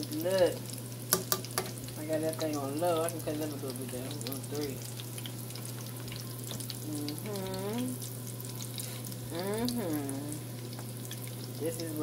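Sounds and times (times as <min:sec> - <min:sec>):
shrimp deep-frying in oil: 0:00.0 - 0:12.0.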